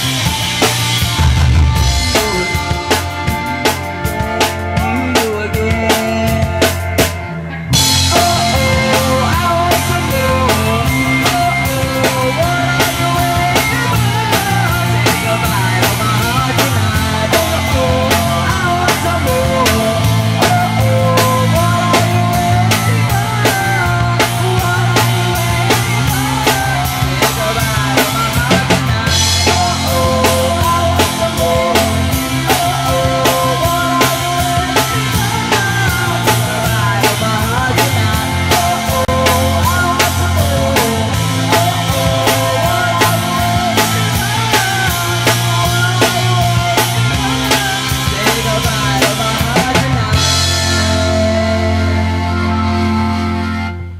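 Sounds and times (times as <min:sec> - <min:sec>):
drum kit beat: 0:00.0 - 0:53.6
rock band playing: 0:00.0 - 0:53.9.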